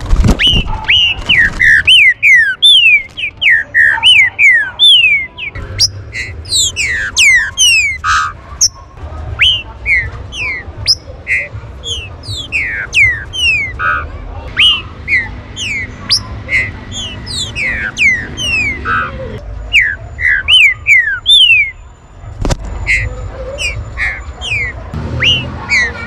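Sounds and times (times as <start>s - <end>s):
birds whistling downward notes: 0.2s - 21.8s, 22.8s - 26.0s.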